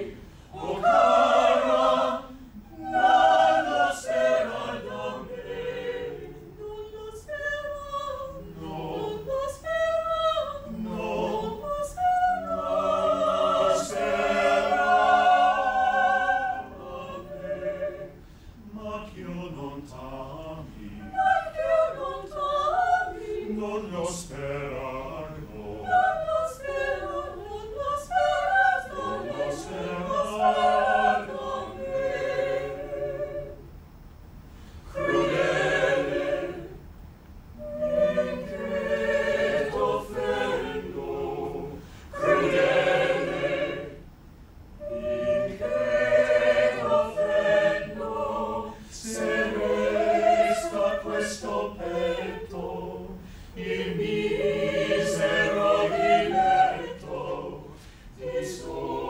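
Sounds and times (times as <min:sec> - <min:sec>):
choir singing a cappella: 0:00.0 - 0:33.8, 0:34.7 - 0:36.9, 0:37.6 - 0:44.2, 0:44.8 - 0:59.0.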